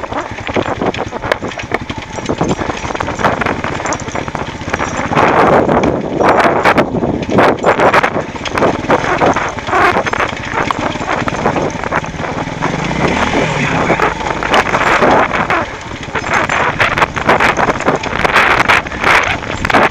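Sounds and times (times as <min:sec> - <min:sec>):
motorcycle engine running low: 0:00.0 - 0:19.9
motorcycle rattling over rocks: 0:00.0 - 0:19.9
wind on microphone: 0:00.0 - 0:19.9.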